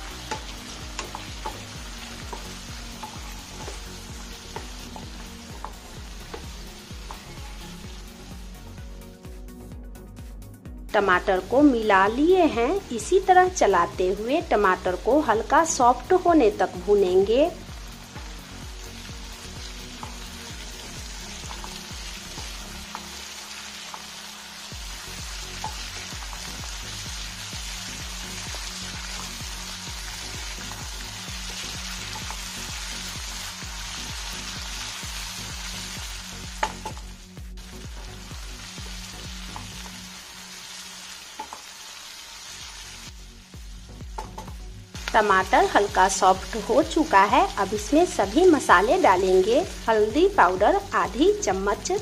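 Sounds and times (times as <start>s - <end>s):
vegetables sizzling in oil: 0.0s - 9.3s, 11.0s - 52.0s.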